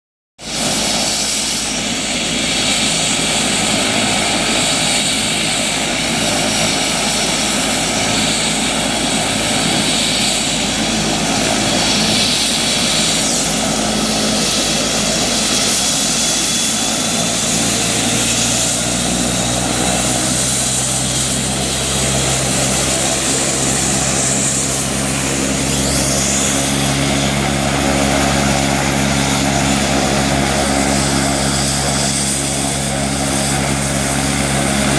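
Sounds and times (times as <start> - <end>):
helicopter turbine and rotor noise: 0.4 - 34.9.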